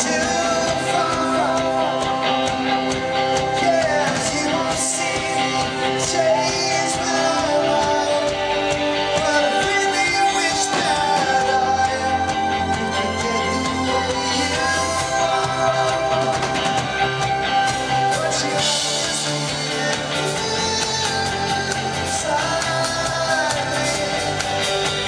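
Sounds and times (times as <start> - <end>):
person singing lead: 0.0 - 25.0
rock band playing: 0.0 - 25.0.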